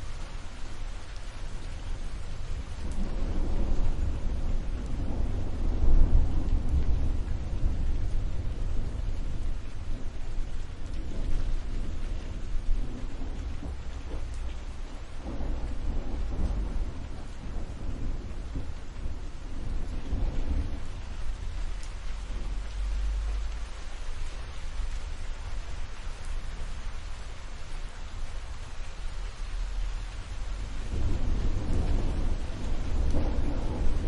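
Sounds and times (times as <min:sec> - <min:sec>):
steady rain: 0:00.0 - 0:34.0
deep rolling thunder: 0:01.6 - 0:27.2, 0:28.1 - 0:34.0.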